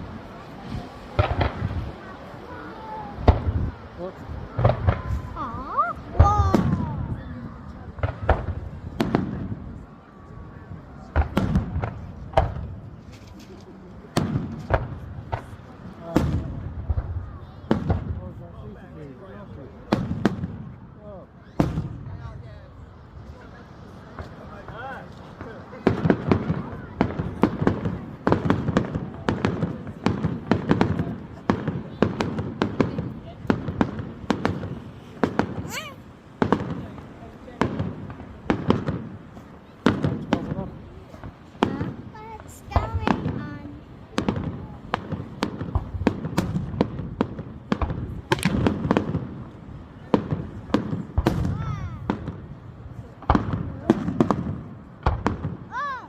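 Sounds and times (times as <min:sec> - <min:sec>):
fireworks bangs: 0:00.0 - 0:56.0
low rumble of explosions: 0:00.0 - 0:56.0.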